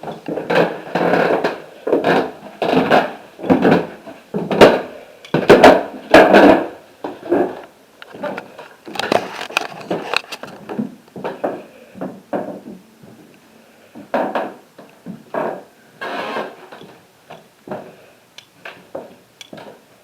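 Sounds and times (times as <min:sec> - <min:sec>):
wooden boards creaking: 0:00.0 - 0:12.8, 0:14.0 - 0:18.0
footsteps on wooden boards: 0:00.0 - 0:13.3, 0:13.9 - 0:18.0, 0:18.6 - 0:19.8.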